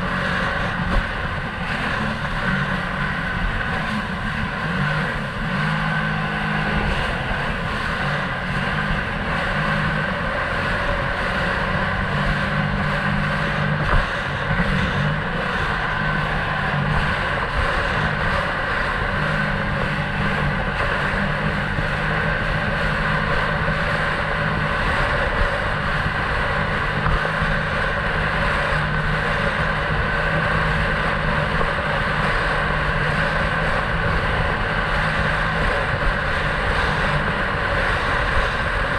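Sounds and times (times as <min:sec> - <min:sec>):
jet ski engine running: 0:00.0 - 0:38.9.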